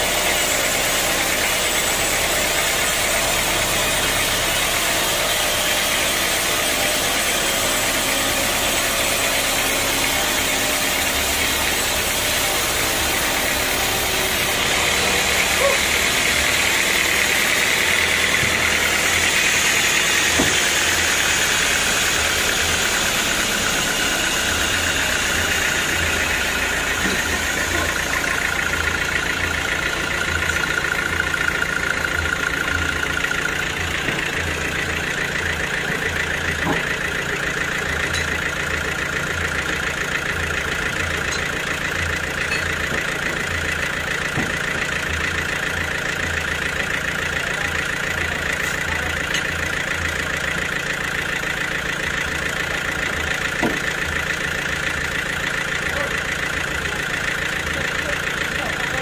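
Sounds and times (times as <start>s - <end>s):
sawmill engine idling: 0.0s - 59.0s.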